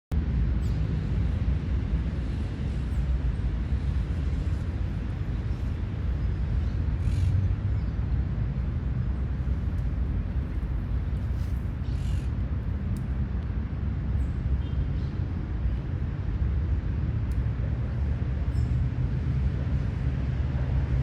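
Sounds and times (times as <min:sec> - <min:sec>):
steady low rumble: 0:00.1 - 0:21.0.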